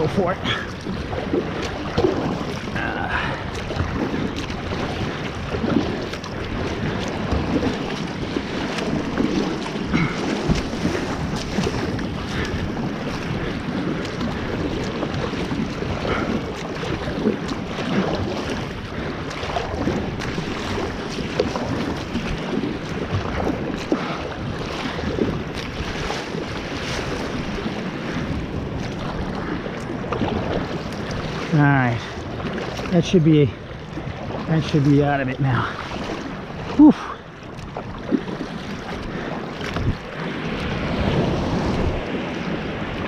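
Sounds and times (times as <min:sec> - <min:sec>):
paddle splashes: 0:00.0 - 0:43.0
water rushing along hull: 0:00.0 - 0:43.0
wind buffeting microphone: 0:00.0 - 0:43.0.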